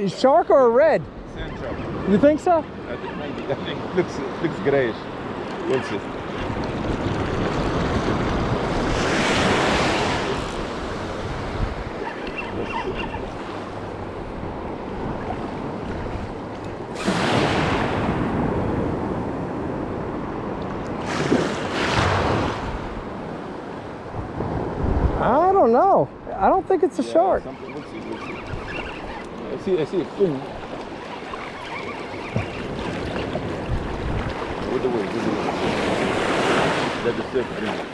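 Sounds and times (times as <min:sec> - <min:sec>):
ocean surf breaking: 0:00.0 - 0:37.9
wind buffeting microphone: 0:00.0 - 0:37.9.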